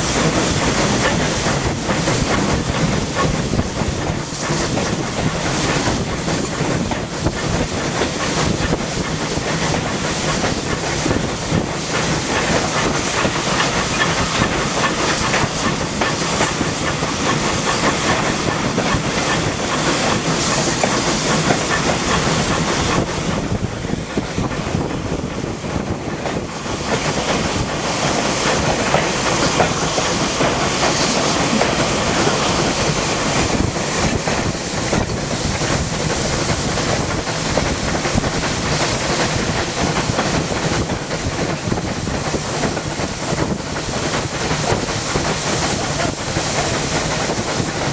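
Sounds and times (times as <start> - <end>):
train wheel and rail noise: 0.0 - 47.9.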